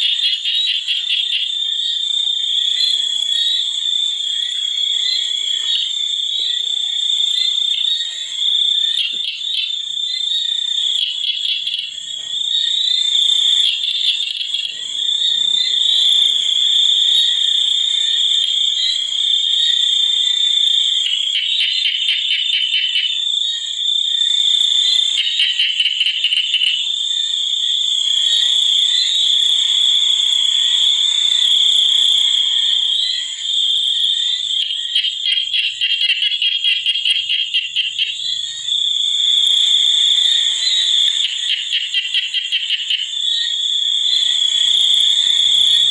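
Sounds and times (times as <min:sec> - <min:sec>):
frog calls: 0:00.0 - 0:45.9
insects trilling: 0:00.0 - 0:45.9.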